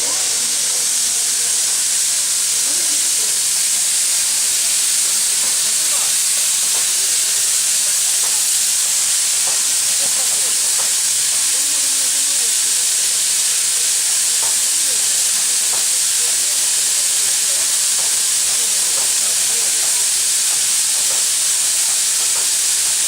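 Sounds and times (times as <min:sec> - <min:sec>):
locomotive venting steam hiss: 0:00.0 - 0:23.0.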